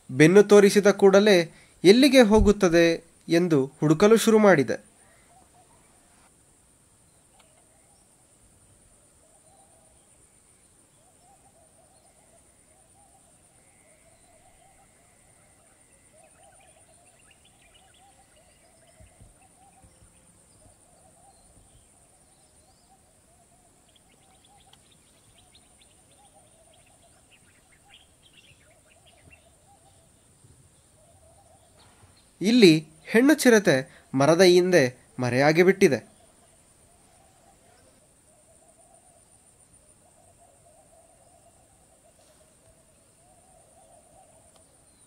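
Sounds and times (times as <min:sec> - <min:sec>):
faint bird calls: 0:00.0 - 0:06.4, 0:07.0 - 0:45.0
high insect drone: 0:04.8 - 0:45.0.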